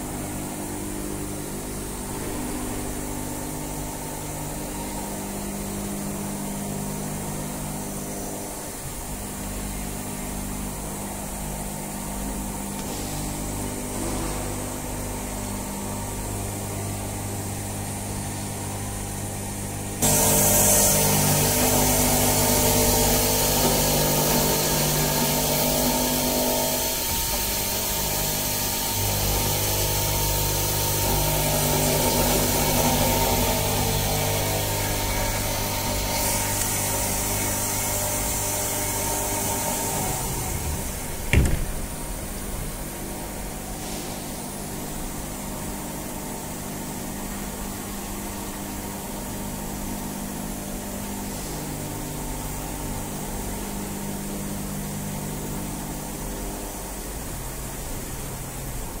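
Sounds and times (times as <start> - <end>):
milling machine hum: 0.0 - 59.0.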